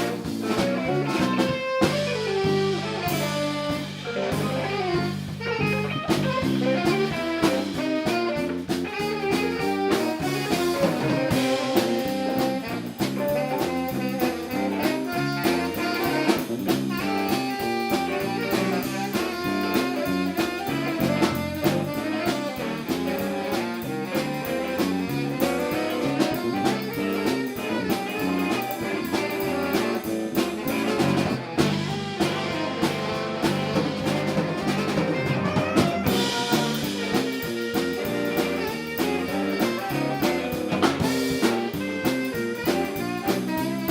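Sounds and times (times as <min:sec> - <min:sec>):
saxophone melody: 0:00.0 - 0:43.9
smooth jazz band playing: 0:00.0 - 0:43.9.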